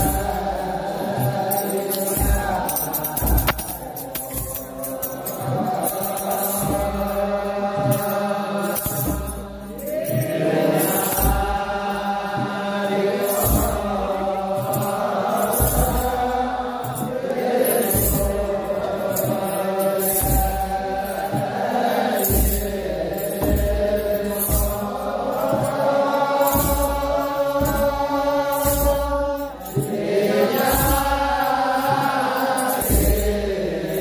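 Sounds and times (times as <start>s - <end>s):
large drum beat: 0.0s - 34.0s
men chanting together: 0.0s - 34.0s
metal jingle: 0.0s - 34.0s.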